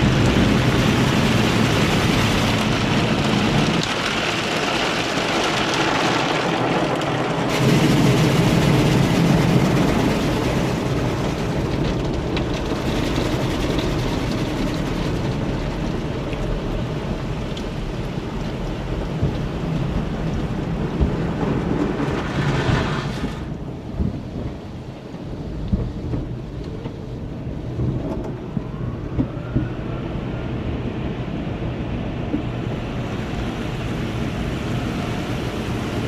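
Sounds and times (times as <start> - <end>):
car wash water jets pounding: 0.0 - 36.0.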